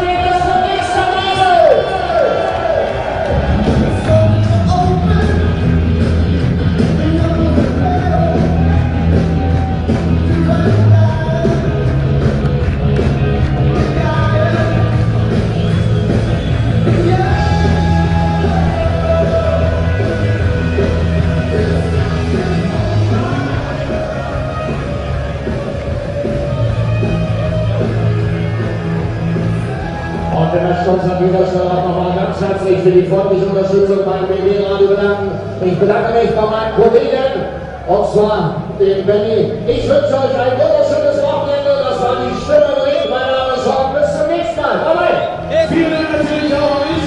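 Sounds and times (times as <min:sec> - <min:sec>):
loud rock music with singing: 0:00.0 - 0:47.0.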